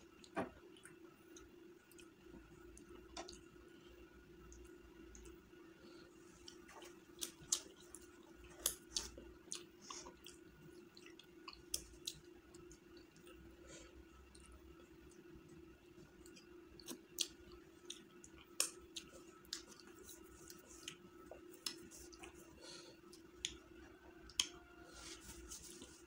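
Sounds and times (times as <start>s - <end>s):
faint steady hum: 0.0s - 26.0s
person chewing food: 4.5s - 26.0s.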